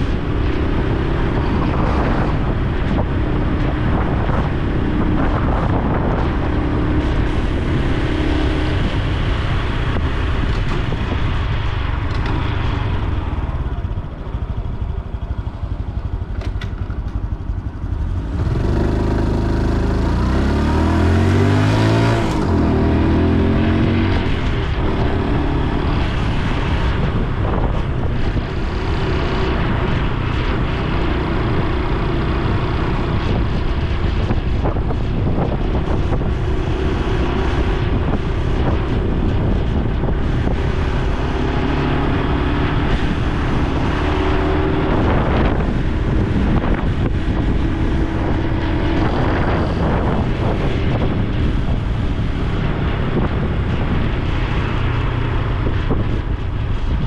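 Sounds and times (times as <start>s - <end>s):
wind rushing: 0.0s - 16.2s, 17.2s - 57.0s
motorcycle engine revving: 0.0s - 57.0s.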